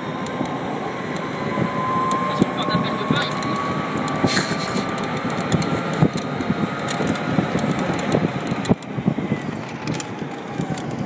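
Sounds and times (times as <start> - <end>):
electric motor whine: 0.0 - 11.0
road and wind noise: 0.0 - 11.0.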